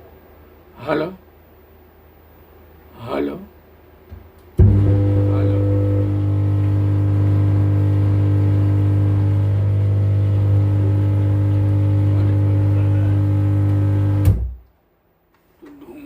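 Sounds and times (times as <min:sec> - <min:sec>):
electrical hum from speaker: 0:00.0 - 0:16.0.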